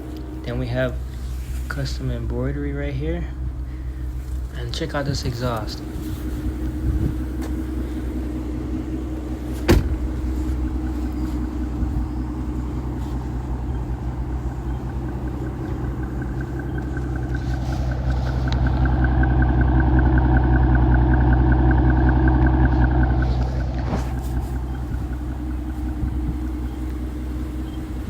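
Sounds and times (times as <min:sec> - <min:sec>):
car engine idling through exhaust: 0:00.0 - 0:28.0.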